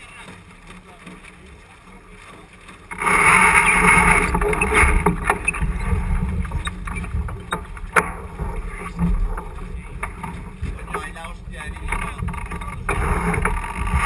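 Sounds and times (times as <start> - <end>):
water rushing past hull: 0.0 - 14.0
wind rumbling on microphone: 0.0 - 14.0.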